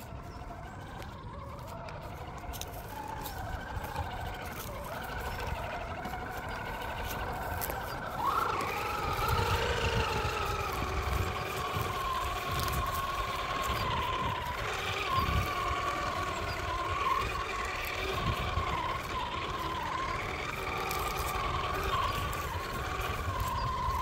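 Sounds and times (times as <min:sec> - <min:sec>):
toy car motor whining: 0:00.0 - 0:24.0.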